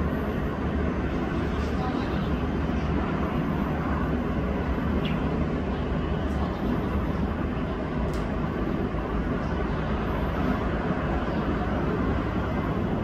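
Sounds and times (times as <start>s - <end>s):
distant vehicles rumbling: 0.0s - 13.0s.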